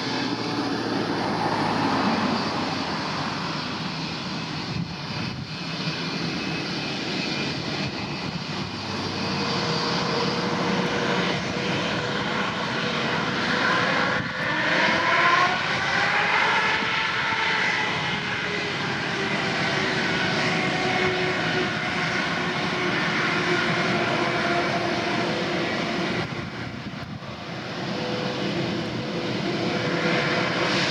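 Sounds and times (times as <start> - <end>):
jet engines at takeoff: 0.0 - 30.9.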